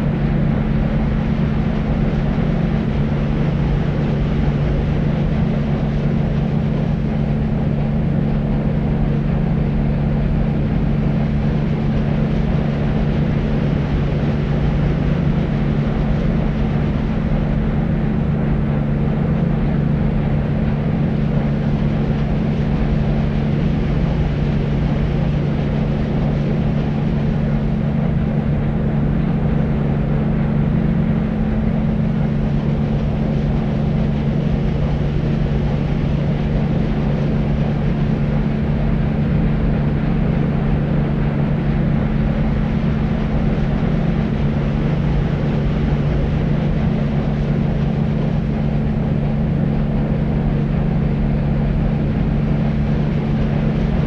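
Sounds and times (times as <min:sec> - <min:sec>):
deep white noise: 0:00.0 - 0:54.0.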